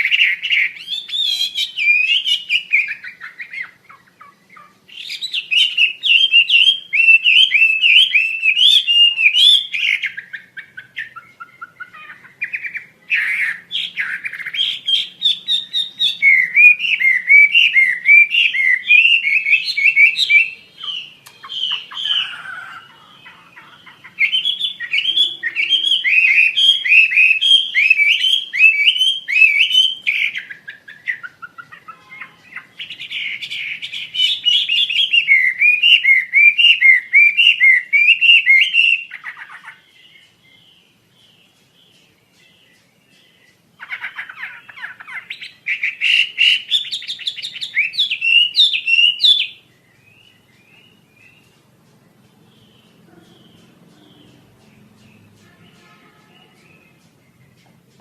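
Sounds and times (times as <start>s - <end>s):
bird singing sharp chirps: 0.0s - 58.0s.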